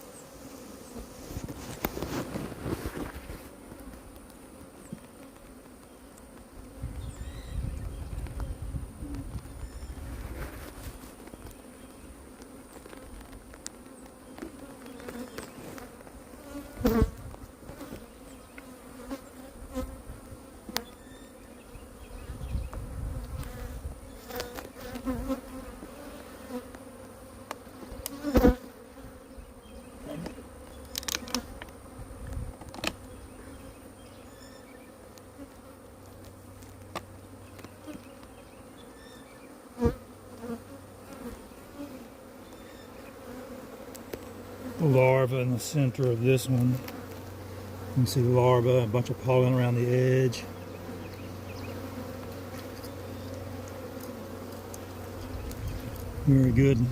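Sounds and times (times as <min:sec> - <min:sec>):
honeybees buzzing: 0:00.0 - 0:56.9.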